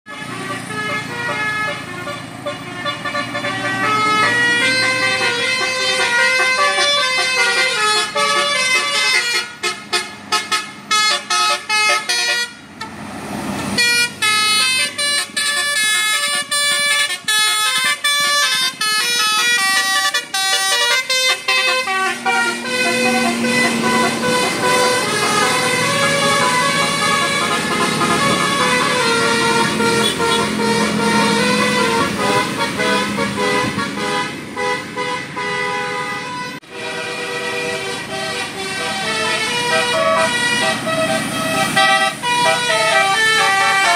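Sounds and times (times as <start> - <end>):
bus musical horn playing a tune: 0.1 - 13.0, 13.7 - 43.9.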